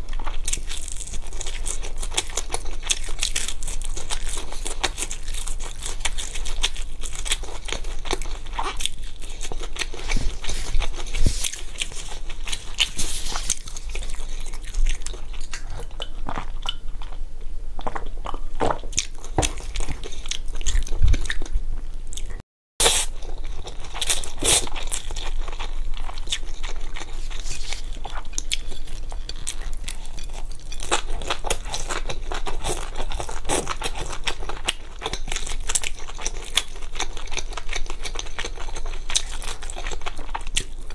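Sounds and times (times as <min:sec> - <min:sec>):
crunching and chewing food: 0:00.0 - 0:40.9.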